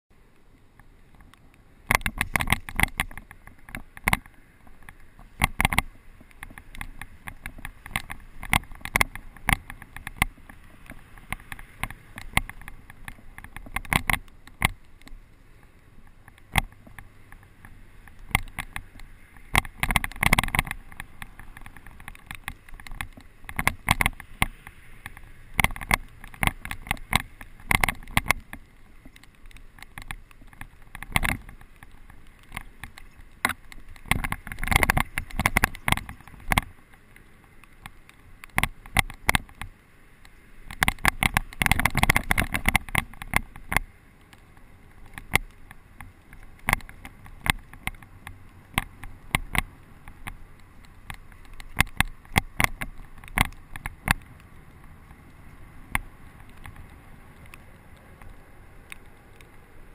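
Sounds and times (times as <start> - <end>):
bike rattling and knocking: 1.9 - 15.3, 16.0 - 39.8, 40.6 - 58.3.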